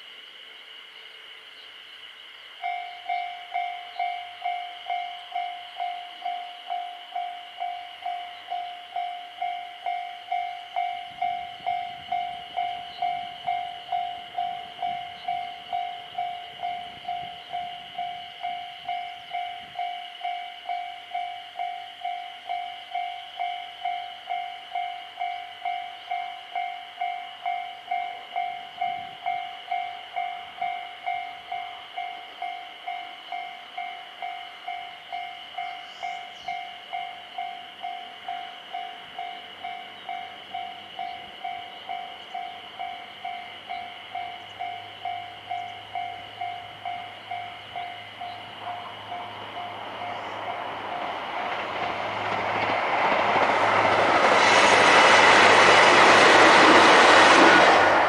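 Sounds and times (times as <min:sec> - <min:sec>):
level crossing alarm ringing: 0:02.6 - 0:51.1.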